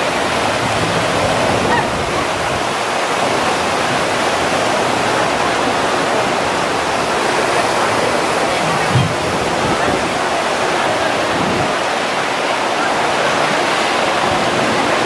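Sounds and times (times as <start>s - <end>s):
water rushing and splashing: 0.0s - 15.0s.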